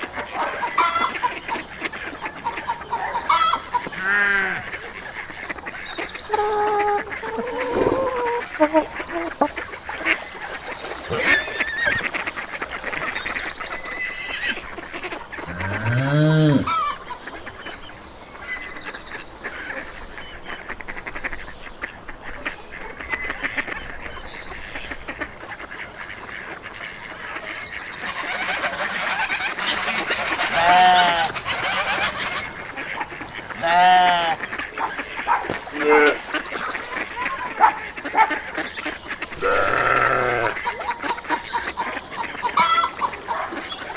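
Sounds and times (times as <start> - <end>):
geese honking: 0.0 - 17.5, 20.6 - 43.9
small birds chirping: 0.0 - 43.9.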